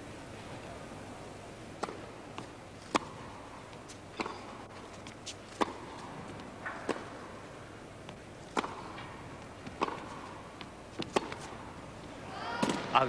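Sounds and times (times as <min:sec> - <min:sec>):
low hush of arena: 0:00.0 - 0:13.0
tennis ball struck by rackets: 0:01.7 - 0:13.0
ball bouncing on court: 0:01.8 - 0:11.9, 0:12.5 - 0:13.0.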